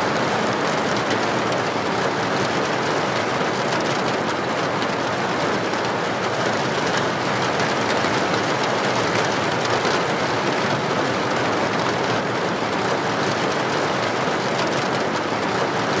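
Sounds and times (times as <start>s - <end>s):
steady rain patter: 0.0s - 16.0s.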